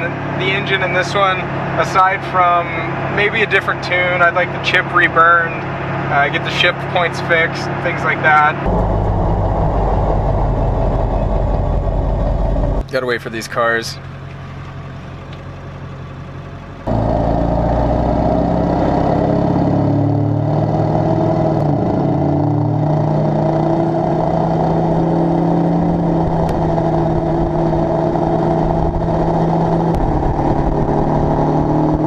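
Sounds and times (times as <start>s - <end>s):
diesel truck engine: 0.0s - 32.0s.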